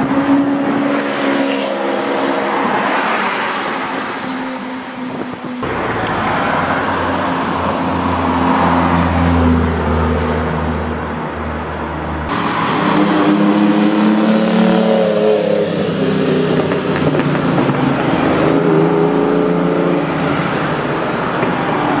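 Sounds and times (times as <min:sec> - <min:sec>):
sports car engines humming: 0:00.0 - 0:22.0
tyre and traffic noise: 0:00.0 - 0:22.0.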